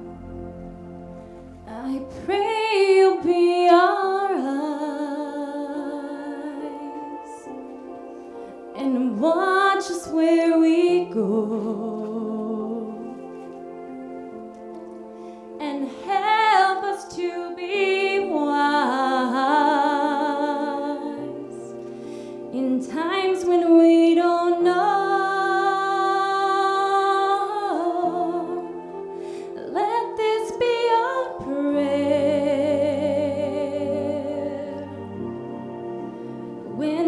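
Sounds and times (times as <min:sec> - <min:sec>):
soft instrumental chords: 0:00.0 - 0:37.0
woman singing slow song: 0:01.6 - 0:08.0, 0:08.6 - 0:13.8, 0:15.6 - 0:21.9, 0:22.5 - 0:35.7.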